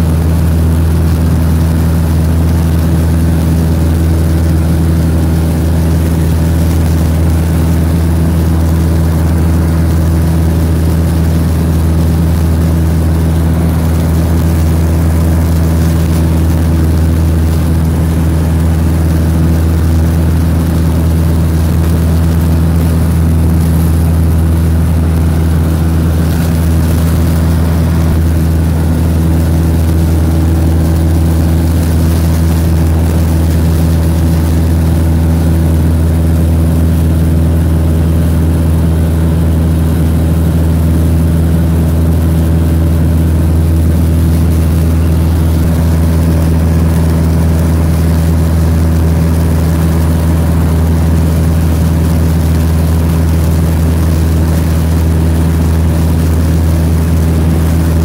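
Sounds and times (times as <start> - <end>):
light aircraft engine drone: 0.0 - 58.0.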